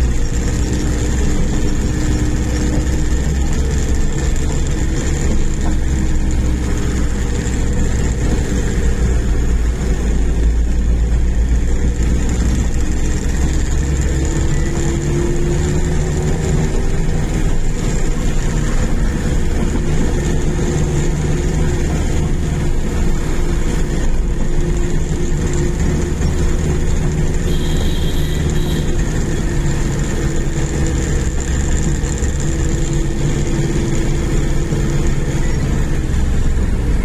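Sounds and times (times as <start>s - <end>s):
car engine and tyre drone: 0.0s - 37.0s.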